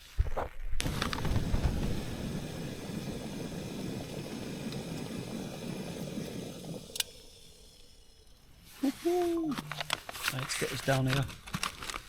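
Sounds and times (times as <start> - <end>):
gas stove burning: 0.8 - 11.2.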